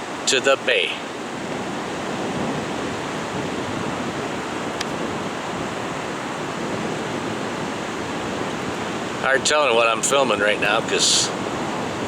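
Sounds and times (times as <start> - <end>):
surf rushing: 0.0 - 12.0
wind: 0.0 - 12.0.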